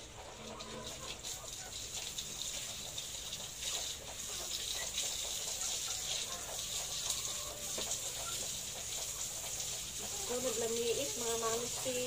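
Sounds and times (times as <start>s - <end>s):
hens clucking softly: 0.0s - 12.0s.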